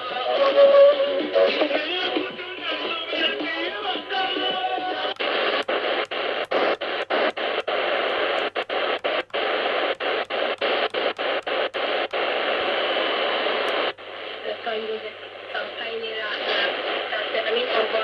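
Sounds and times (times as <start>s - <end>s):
music on radio: 0.0s - 18.0s
radio static hiss: 0.0s - 18.0s.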